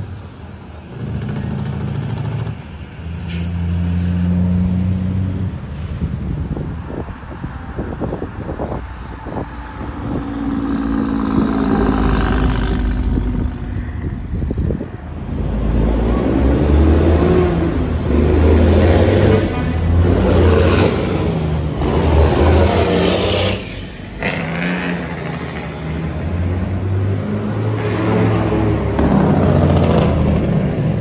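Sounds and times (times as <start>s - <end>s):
truck engine rumbling past: 0.0s - 31.0s.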